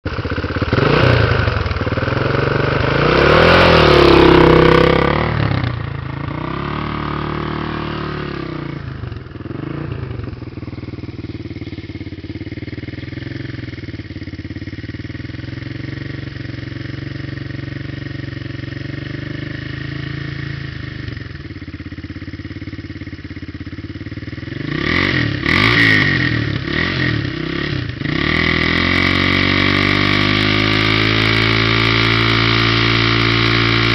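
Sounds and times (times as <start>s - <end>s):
dirt bike engine revving and idling: 0.0s - 33.9s.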